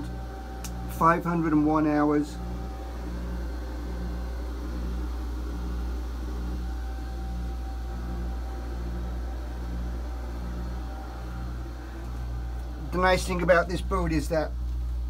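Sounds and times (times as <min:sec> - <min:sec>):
engine room machinery hum: 0:00.0 - 0:15.0.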